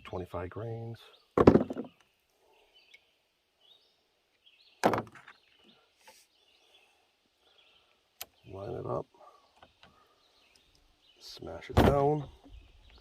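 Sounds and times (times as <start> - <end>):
faint bird chirps: 0.9 - 13.0.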